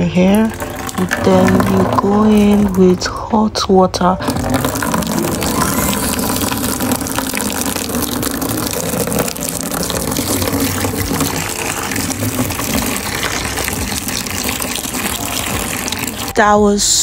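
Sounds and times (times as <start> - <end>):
water pouring into a bowl: 0.0 - 3.0, 4.2 - 16.4.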